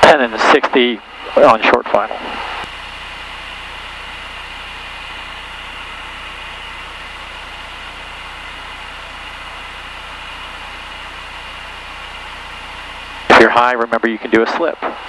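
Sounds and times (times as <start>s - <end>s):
airplane engine and propeller drone: 0.0s - 15.0s.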